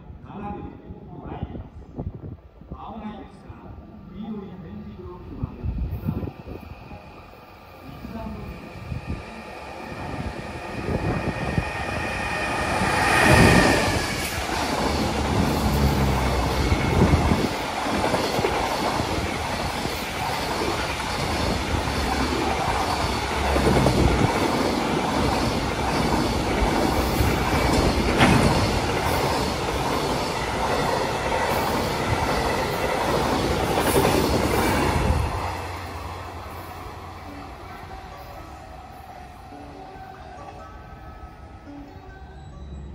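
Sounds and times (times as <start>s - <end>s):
electric locomotive whine: 4.5s - 42.9s.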